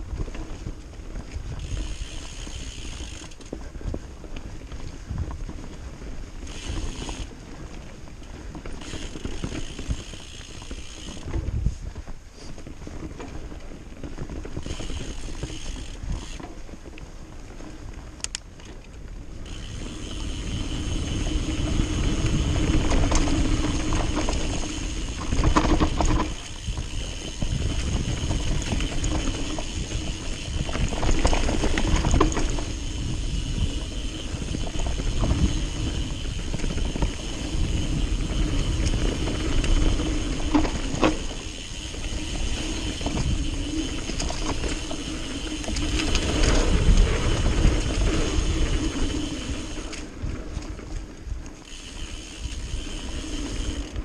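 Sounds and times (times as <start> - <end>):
bike rattling and knocking: 0.0 - 54.0
bike tyres rumbling over dirt: 0.0 - 54.0
wind rumbling on microphone: 0.0 - 54.0.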